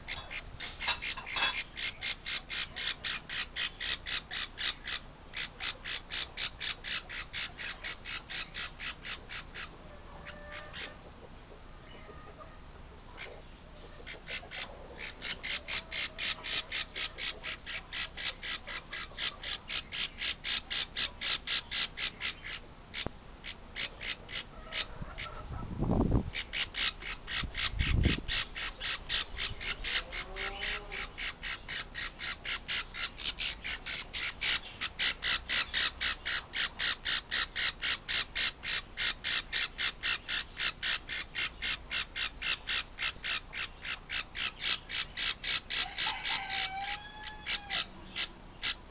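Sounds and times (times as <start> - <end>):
parrot chick squawking: 0.0 - 11.1, 14.0 - 25.7, 26.3 - 48.9.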